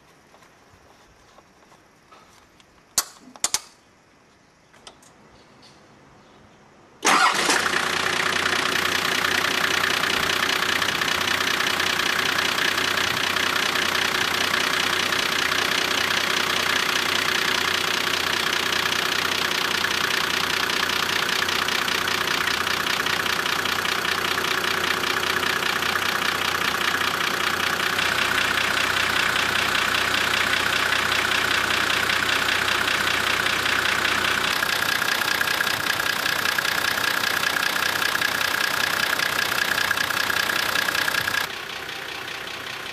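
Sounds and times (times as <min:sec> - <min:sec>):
diesel engine idling: 0:07.0 - 0:42.9.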